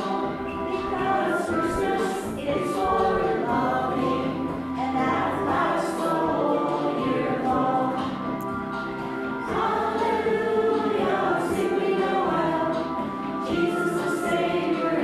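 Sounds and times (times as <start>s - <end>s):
choir singing long notes: 0.0s - 8.3s, 9.3s - 15.0s.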